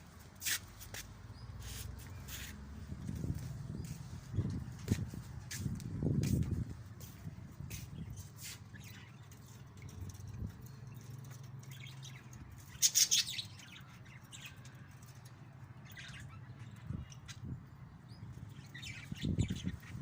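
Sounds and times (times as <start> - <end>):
small birds chirping: 0.4 - 20.0.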